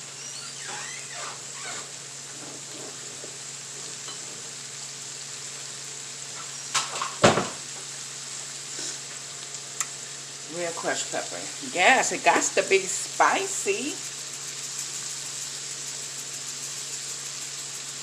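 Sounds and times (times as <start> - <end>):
shrimp sizzling in a frying pan: 0.0 - 18.0.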